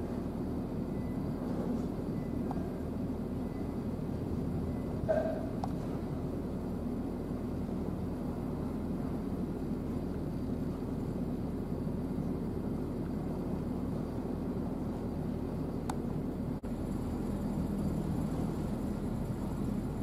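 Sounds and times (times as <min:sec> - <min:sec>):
ship engine low rumble: 0:00.0 - 0:20.0.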